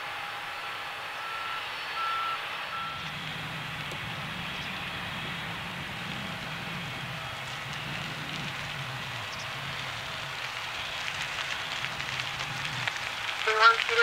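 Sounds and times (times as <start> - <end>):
low hum: 0.0 - 14.0
turbine hiss: 0.0 - 14.0.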